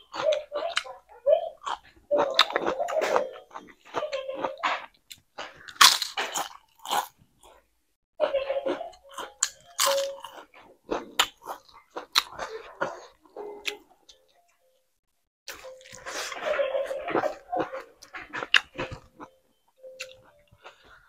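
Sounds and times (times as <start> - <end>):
person chewing food: 0.0 - 14.6, 15.5 - 21.0.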